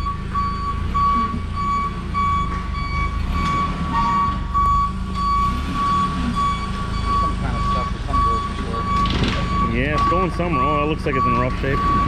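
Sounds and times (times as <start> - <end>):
low engine rumble: 0.0 - 12.0
reversing alarm beeping: 0.0 - 12.0.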